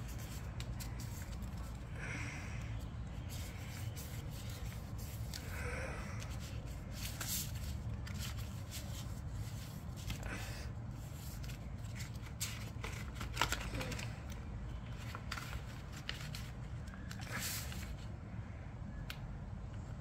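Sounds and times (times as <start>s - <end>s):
paper being folded: 0.0s - 2.4s, 3.0s - 18.1s
steady low hum: 0.0s - 20.0s.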